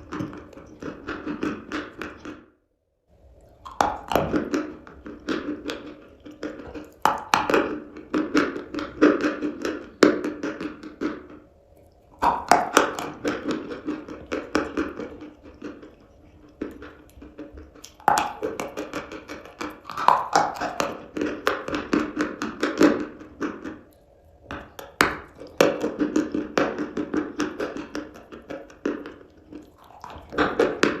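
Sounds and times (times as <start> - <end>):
chalk crunching being chewed: 3.4 - 31.0.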